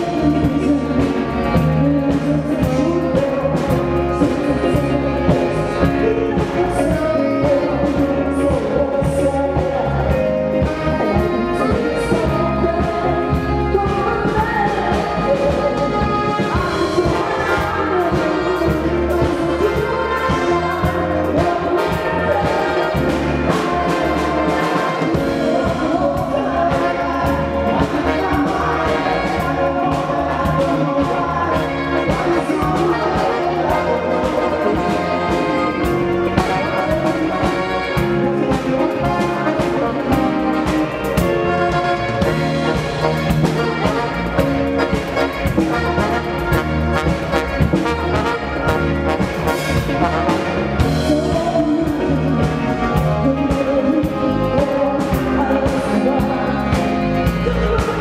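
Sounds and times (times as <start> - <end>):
horn section: 0.0 - 58.0
live band playing: 0.0 - 58.0
man singing: 0.0 - 58.0
woman singing lead: 0.0 - 58.0.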